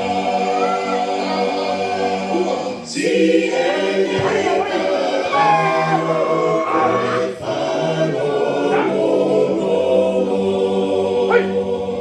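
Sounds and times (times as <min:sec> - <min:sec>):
voices singing long held notes: 0:00.0 - 0:12.0.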